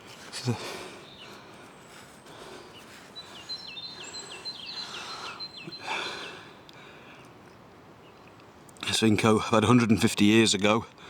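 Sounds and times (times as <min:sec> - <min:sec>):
songbird singing: 0:00.0 - 0:10.8
outdoor background noise: 0:00.0 - 0:11.0.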